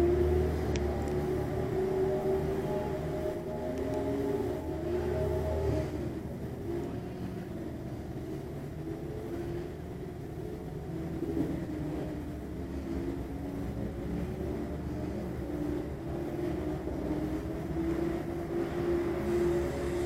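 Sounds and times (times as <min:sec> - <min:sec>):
distant racing car engines: 0:00.0 - 0:20.0.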